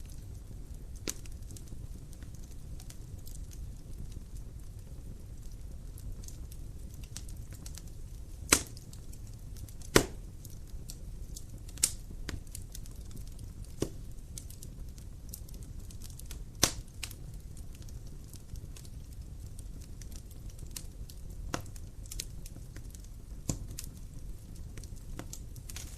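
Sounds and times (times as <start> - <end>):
low flame rumble: 0.0 - 25.9
sharp fire pops: 0.0 - 25.9
wood fire crackling: 0.0 - 25.9.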